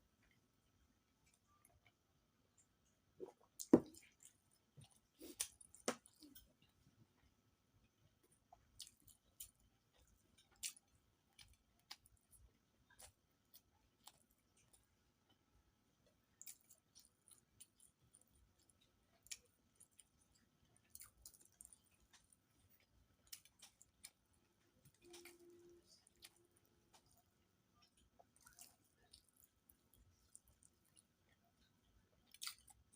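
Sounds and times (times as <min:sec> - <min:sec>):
person chewing food: 0:01.1 - 0:32.9.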